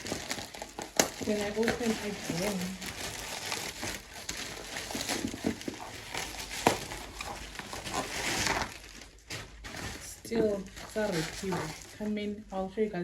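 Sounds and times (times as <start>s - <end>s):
packaging rustling and crinkling: 0.0s - 12.6s.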